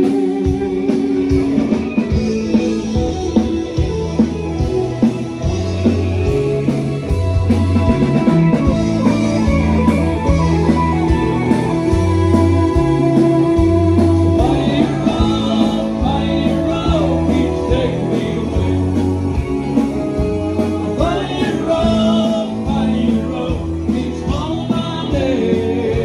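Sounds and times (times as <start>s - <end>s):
bending lead guitar lines: 0.0s - 26.0s
live country band playing: 0.0s - 26.0s.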